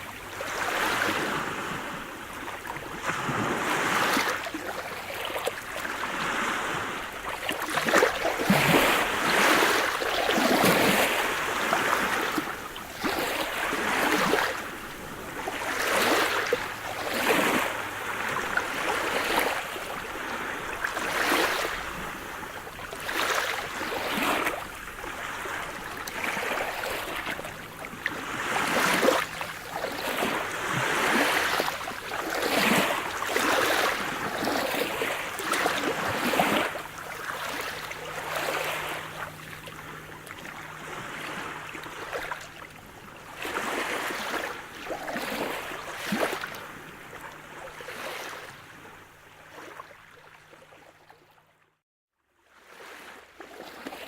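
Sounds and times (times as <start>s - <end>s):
small waves breaking ashore: 0.0s - 51.7s, 52.4s - 54.0s.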